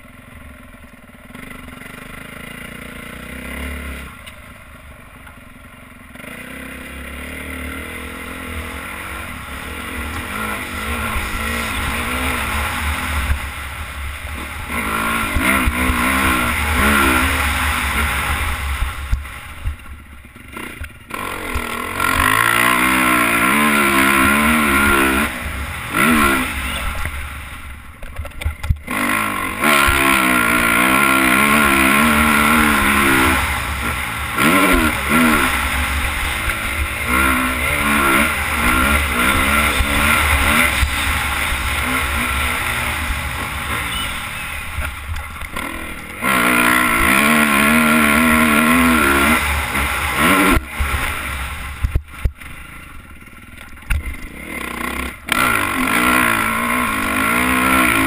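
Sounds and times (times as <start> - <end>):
dirt bike engine revving: 0.0 - 5.0, 5.6 - 58.0.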